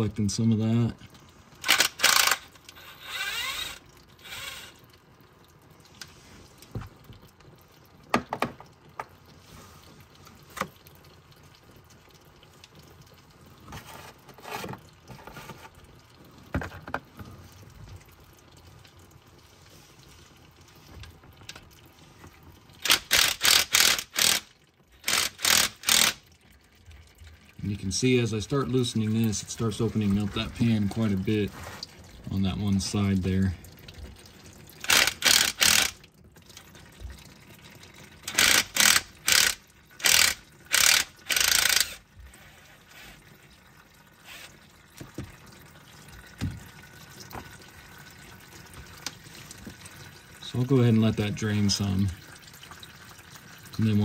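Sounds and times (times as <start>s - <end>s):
fluid dribbling into plastic bin: 3.6s - 22.9s, 26.1s - 54.0s.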